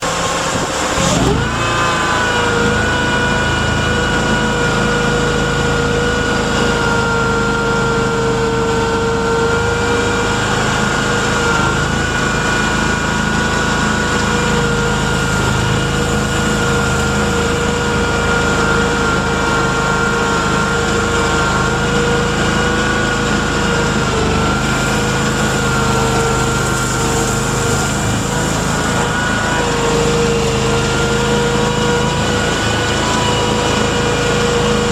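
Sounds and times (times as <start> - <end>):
tracked vehicle engine drone: 0.0 - 34.9.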